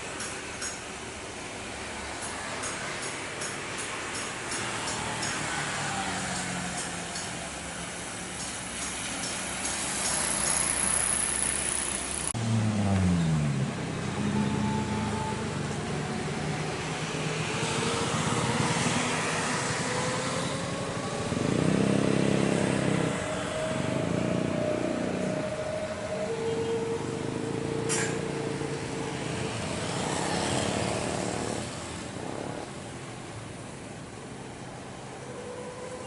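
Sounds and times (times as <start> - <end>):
traffic noise: 0.0 - 36.0
vehicles passing: 0.0 - 36.0.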